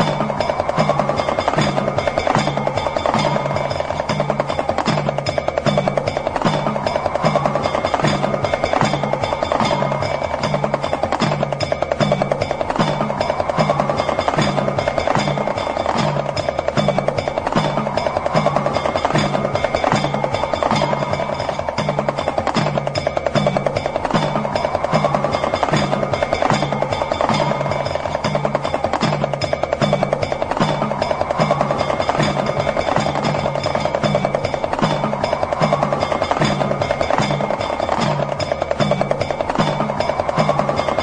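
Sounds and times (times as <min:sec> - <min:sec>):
hand drum rattling roll: 0:00.0 - 0:41.0
ringing tones: 0:00.0 - 0:41.0.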